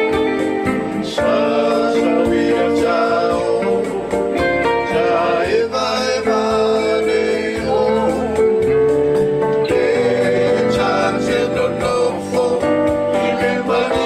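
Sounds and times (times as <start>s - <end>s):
song with instrumental accompaniment: 0.0s - 14.0s.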